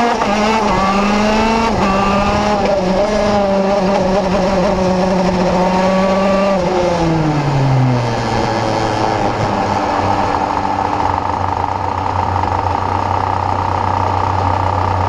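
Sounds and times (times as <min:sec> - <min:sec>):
kart engine running hard: 0:00.0 - 0:15.0.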